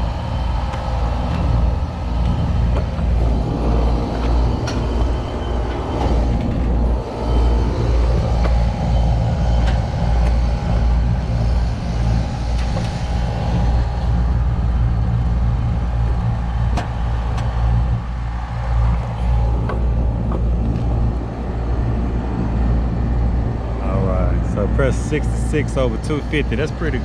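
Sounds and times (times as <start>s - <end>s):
air conditioning unit humming: 0.0s - 27.0s.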